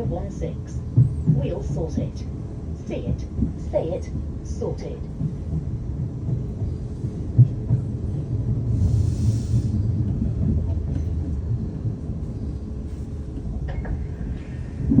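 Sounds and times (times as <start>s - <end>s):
train rumble inside carriage: 0.0s - 15.0s.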